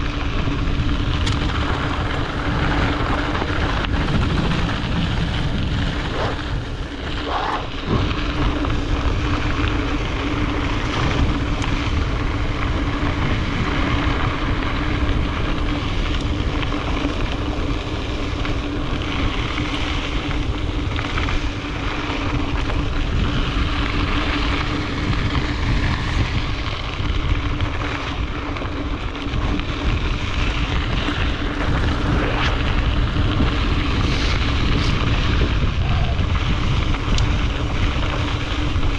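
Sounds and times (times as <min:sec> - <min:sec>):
bike tyres rumbling: 0:00.0 - 0:38.9
steady hum: 0:00.0 - 0:38.9
wind buffeting microphone: 0:00.0 - 0:38.9.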